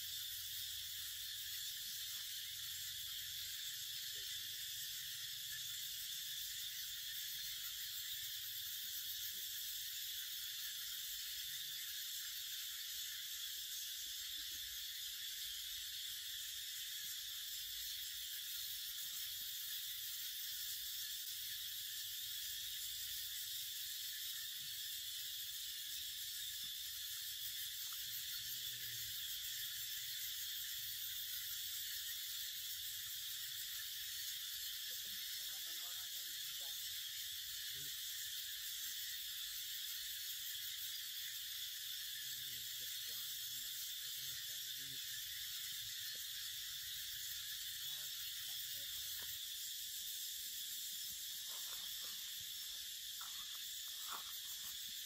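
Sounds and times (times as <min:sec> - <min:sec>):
insect chorus hissing: 0:00.0 - 0:55.0.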